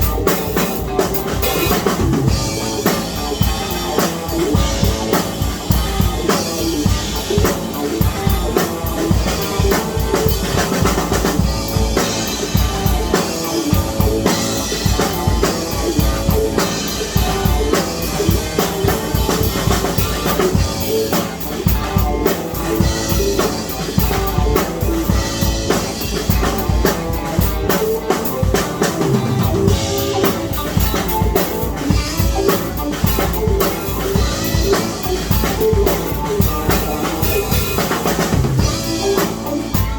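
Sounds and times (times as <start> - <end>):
drum-driven music: 0.0 - 39.9.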